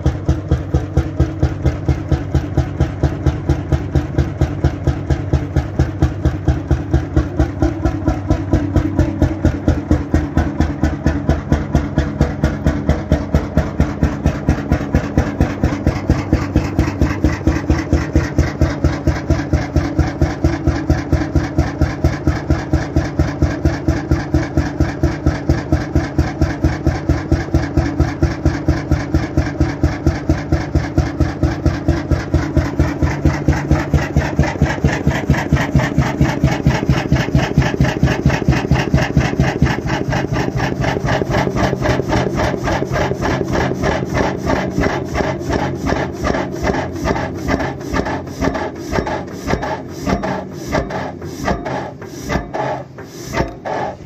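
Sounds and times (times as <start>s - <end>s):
fuel pump rattling clatter: 0.0s - 54.0s
oil engine running slowly: 0.0s - 54.0s.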